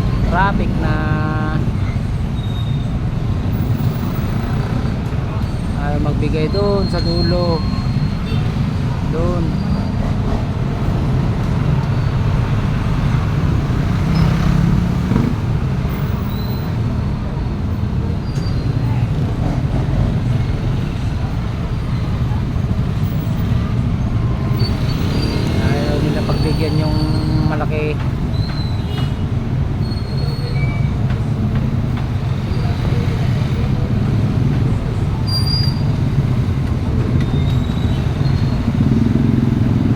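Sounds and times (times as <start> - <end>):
road traffic: 0.0 - 39.9
truck engine rumbling: 0.0 - 39.9.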